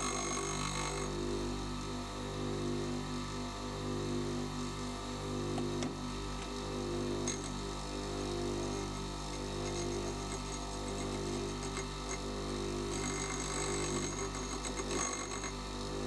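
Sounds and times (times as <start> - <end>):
bench grinder motor humming: 0.0 - 16.0.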